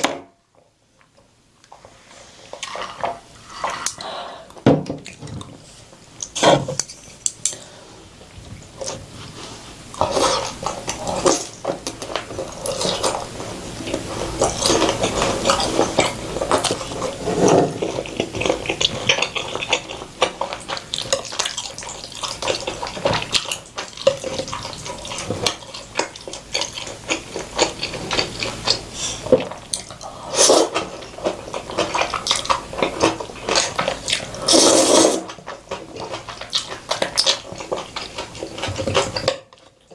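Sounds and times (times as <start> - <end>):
slurping and chewing: 1.7 - 39.9.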